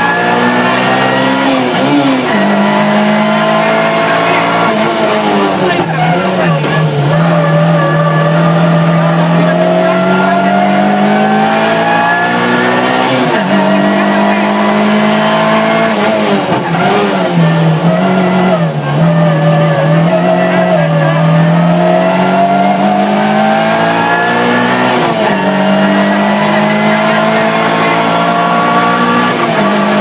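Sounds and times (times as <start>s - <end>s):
rally car engine: 0.0s - 30.0s.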